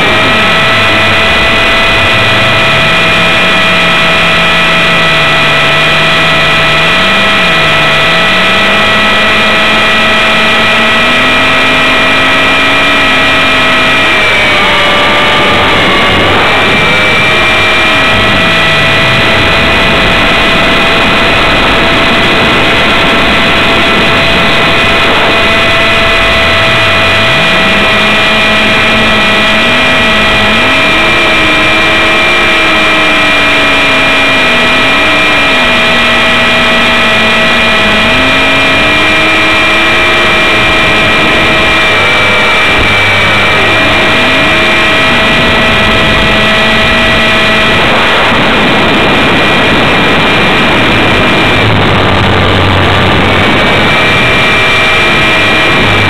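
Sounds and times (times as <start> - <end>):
helicopter motor whining: 0.0 - 56.0.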